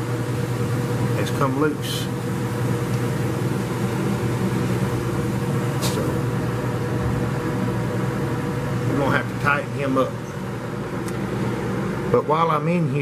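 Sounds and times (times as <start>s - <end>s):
electric motor humming: 0.0s - 12.2s.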